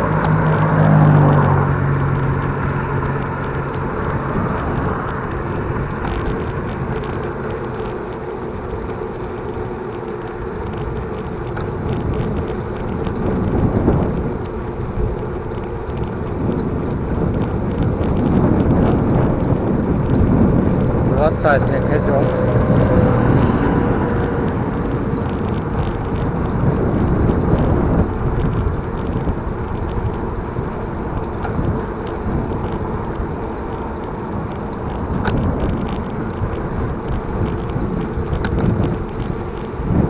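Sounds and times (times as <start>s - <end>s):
bicycle tyres on paved road: 0.0s - 40.0s
wind on microphone: 0.0s - 40.0s.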